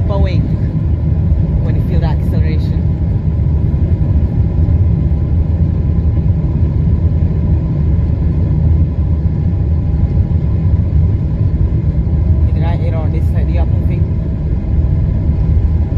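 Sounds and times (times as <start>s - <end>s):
jet engines deep rumble: 0.0s - 15.9s.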